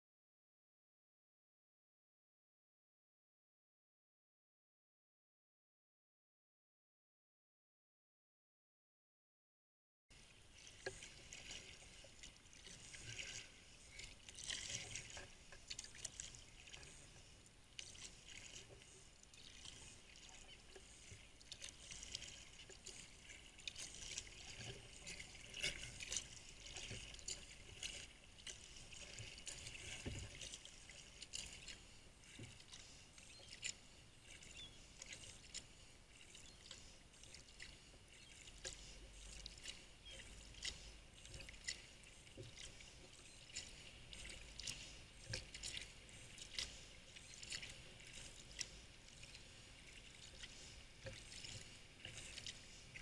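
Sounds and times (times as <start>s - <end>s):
kayak paddle splashing water: 10.2s - 53.0s.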